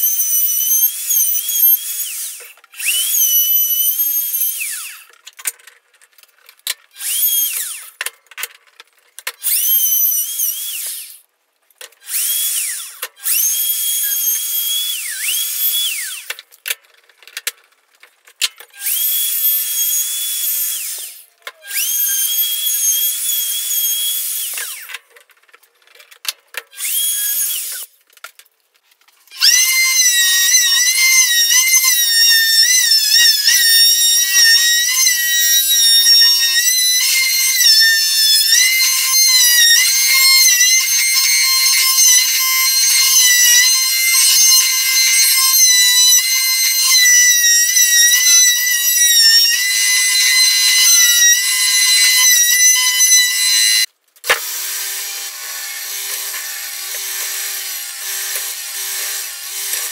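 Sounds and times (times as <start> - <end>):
router whining through wood: 0.0 - 5.2, 6.8 - 8.1, 9.4 - 11.2, 12.0 - 16.4, 18.7 - 25.0, 26.7 - 27.9, 29.3 - 59.9.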